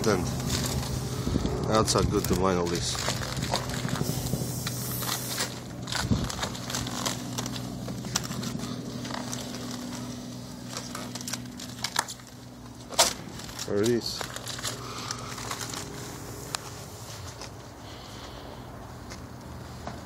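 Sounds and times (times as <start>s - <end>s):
vinyl film peeling and crackling: 0.0s - 17.7s
steady low hum: 0.0s - 20.0s.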